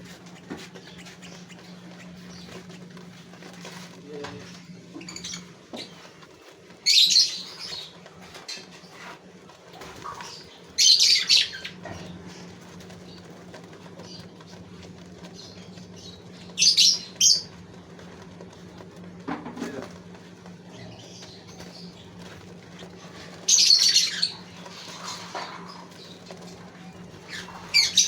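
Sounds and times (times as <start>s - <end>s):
finches fluttering wings: 0.0s - 28.0s
steady low hum: 0.0s - 28.0s.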